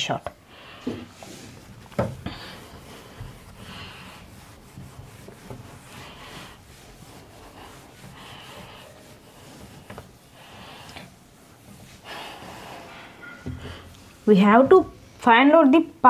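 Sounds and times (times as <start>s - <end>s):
cloth wiping whiteboard: 0.0s - 15.1s.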